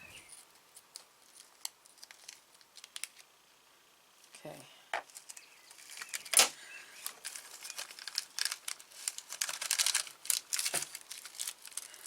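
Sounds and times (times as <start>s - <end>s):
plastic bag crinkling: 0.3s - 3.3s, 5.1s - 12.0s.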